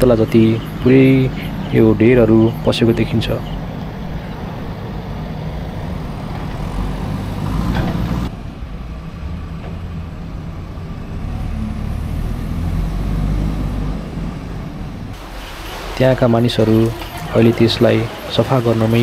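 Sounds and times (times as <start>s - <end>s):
vehicle engine with road noise: 0.0s - 19.0s.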